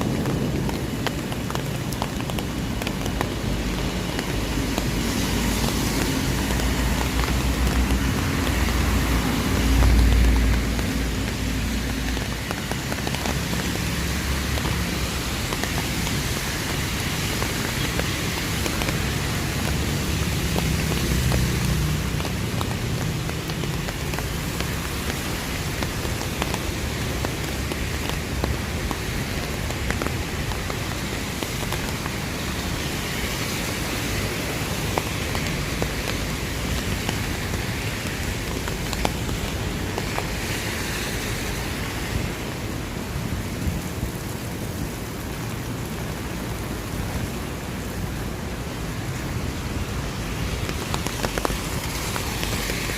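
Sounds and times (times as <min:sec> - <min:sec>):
rain on pavement: 0:00.0 - 0:52.9
traffic rumble: 0:00.0 - 0:52.9.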